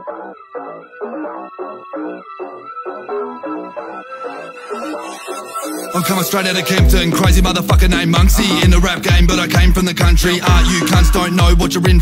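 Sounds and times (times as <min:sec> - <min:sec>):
instrumental hip-hop music: 0:00.0 - 0:12.0.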